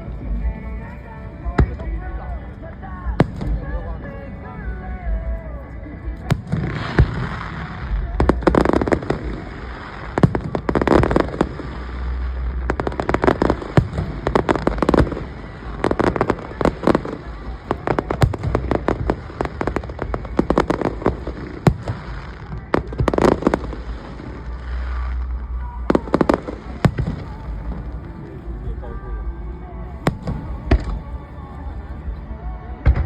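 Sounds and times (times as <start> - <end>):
firework cracks and crackling: 0.0 - 29.0, 30.0 - 31.5.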